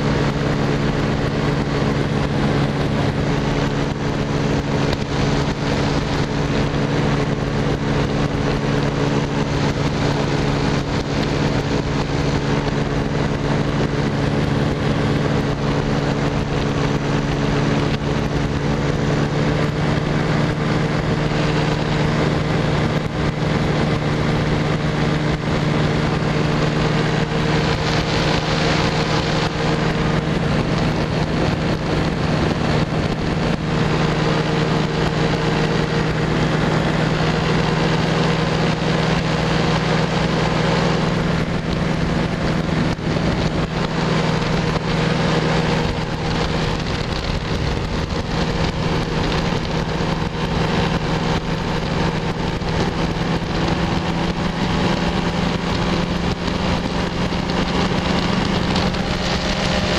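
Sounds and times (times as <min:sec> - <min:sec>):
aircraft engine drone: 0:00.0 - 0:59.9
wind rushing over microphone: 0:00.0 - 0:59.9.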